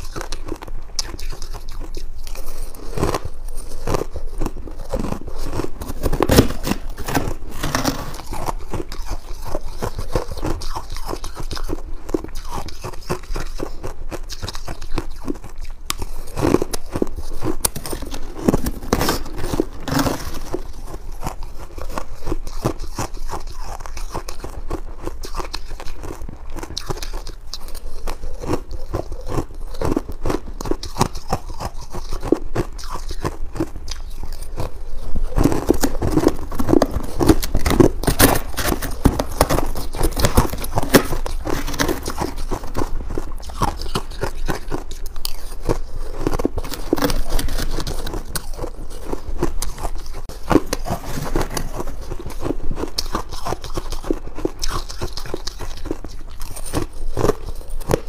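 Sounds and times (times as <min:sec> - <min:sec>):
crunching and chewing ice: 0:00.0 - 0:58.0.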